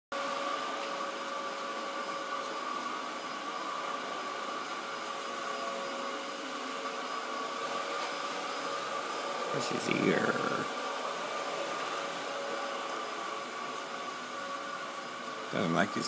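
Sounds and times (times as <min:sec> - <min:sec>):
vacuum cleaner running: 0:00.1 - 0:16.0.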